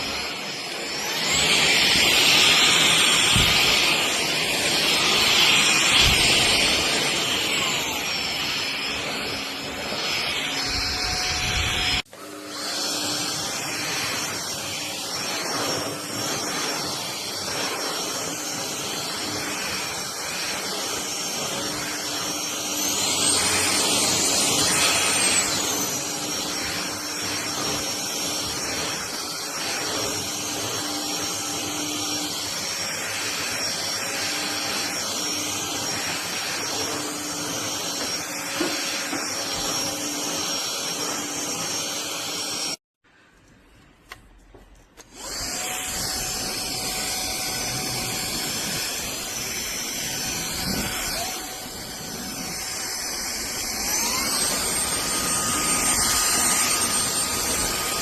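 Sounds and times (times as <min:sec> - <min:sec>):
stick vacuum running: 0:00.0 - 0:42.7, 0:45.0 - 0:58.0.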